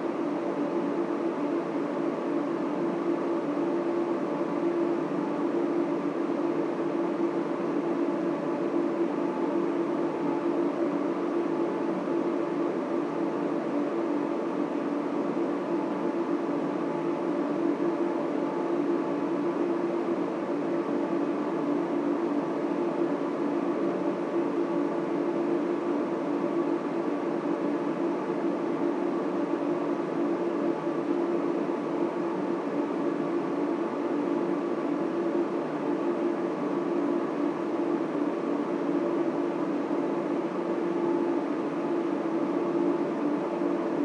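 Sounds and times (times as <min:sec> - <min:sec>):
server cooling fans whirring: 0:00.0 - 0:44.0.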